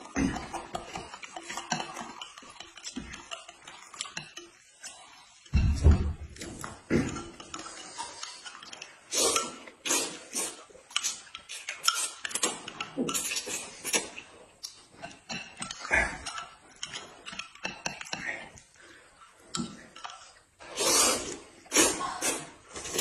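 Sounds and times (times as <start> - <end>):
noodles slurped: 0.0 - 5.6, 6.2 - 23.0
chewing: 0.0 - 23.0.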